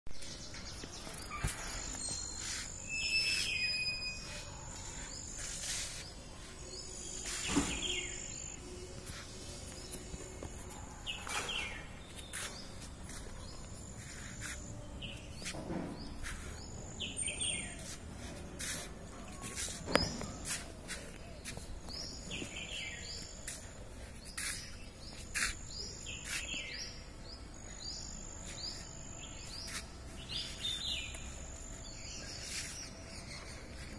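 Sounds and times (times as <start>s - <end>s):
outdoor background hiss: 0.1s - 33.9s
small birds chirping: 0.1s - 33.9s.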